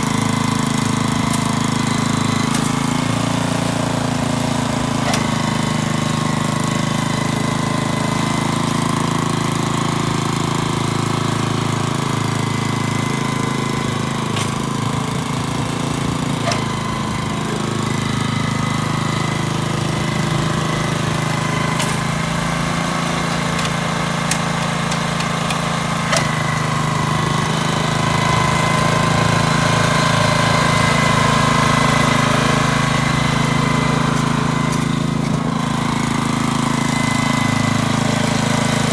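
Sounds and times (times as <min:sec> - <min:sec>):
tiller engine running: 0:00.0 - 0:38.9.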